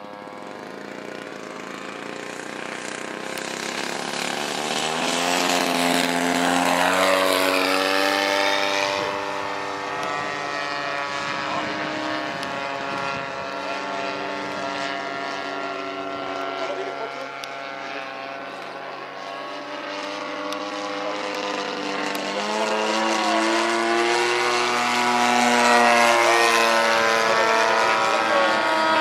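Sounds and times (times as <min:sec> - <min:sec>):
model plane engine buzzing: 0:00.0 - 0:29.0.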